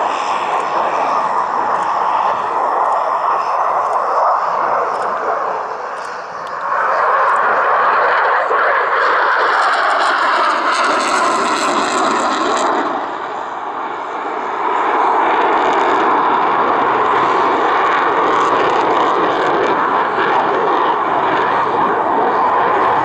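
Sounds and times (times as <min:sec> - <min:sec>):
fighter jet engine roar: 0:00.0 - 0:23.0.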